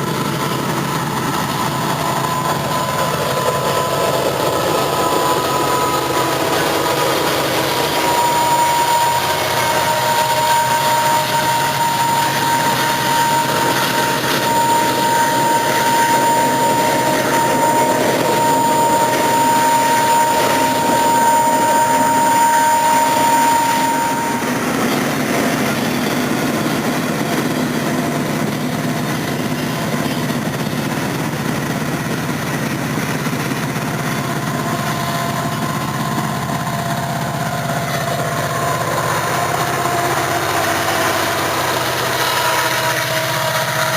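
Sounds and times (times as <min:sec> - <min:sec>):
diesel locomotive running: 0:00.0 - 0:43.9
steady high tone: 0:00.0 - 0:43.9.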